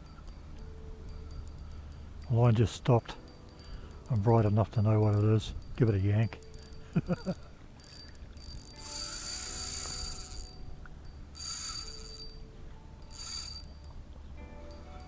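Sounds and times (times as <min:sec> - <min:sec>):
fishing reel ratcheting: 0:00.0 - 0:14.0.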